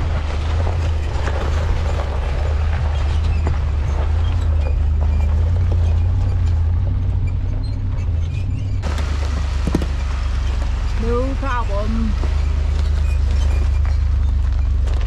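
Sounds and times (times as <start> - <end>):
low engine drone: 0.0 - 15.0
tires knocking over stones: 0.0 - 15.0.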